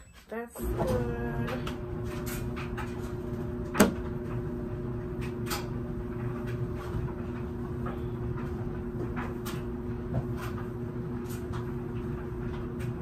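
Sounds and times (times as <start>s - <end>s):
laundry machine humming: 0.0s - 13.0s.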